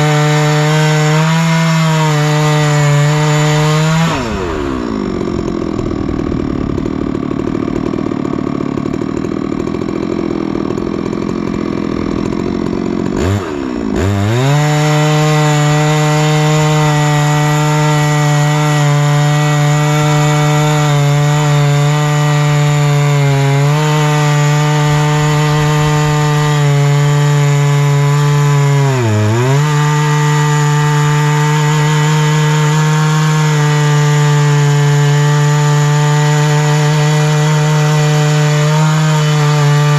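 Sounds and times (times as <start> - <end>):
chainsaw mill ripping log: 0.0 - 39.9.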